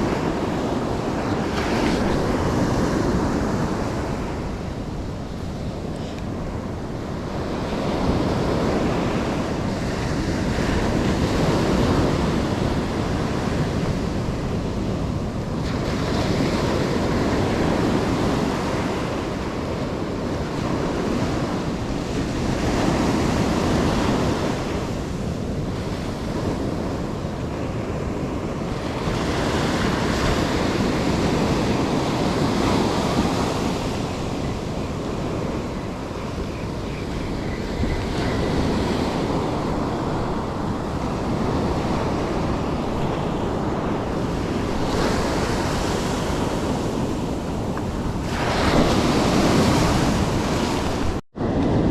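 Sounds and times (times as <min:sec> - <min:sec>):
ocean surf breaking: 0:00.0 - 0:51.9
wind buffeting microphone: 0:00.0 - 0:51.9.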